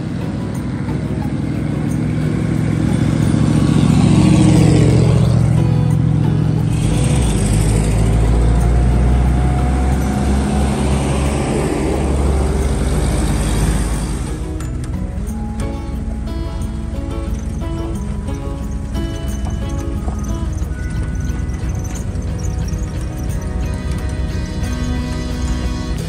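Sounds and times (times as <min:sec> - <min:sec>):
vehicles driving past: 0:00.0 - 0:26.0.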